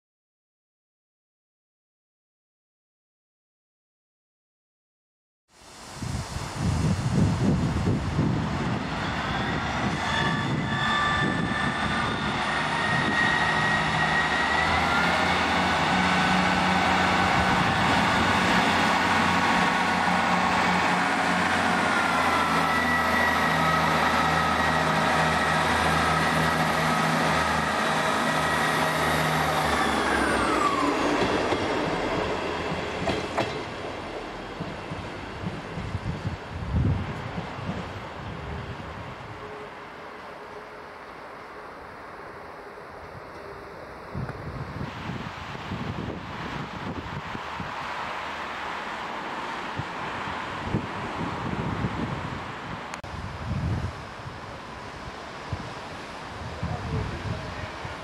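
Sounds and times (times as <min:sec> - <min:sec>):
diesel train passing: 0:05.6 - 0:58.0.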